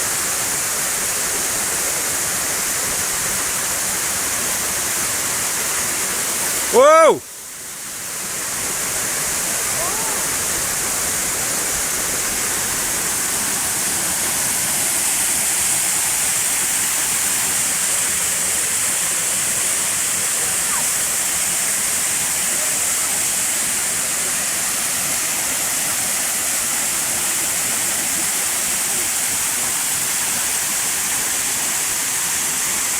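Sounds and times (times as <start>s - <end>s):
waterfall roaring: 0.0s - 32.9s.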